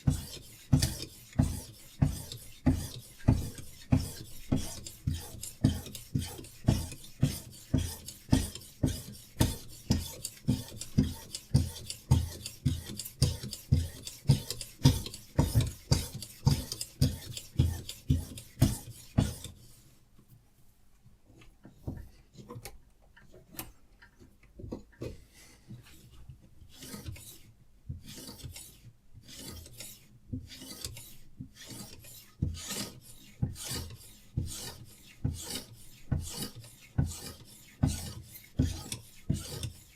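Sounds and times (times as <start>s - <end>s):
sharpening stone rasping on knife: 0.0s - 19.6s, 26.7s - 27.4s, 28.0s - 39.9s.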